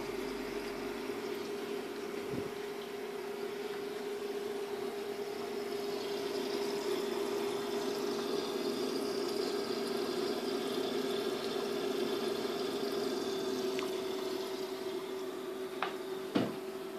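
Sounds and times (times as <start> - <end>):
steady hum: 0.0 - 16.9.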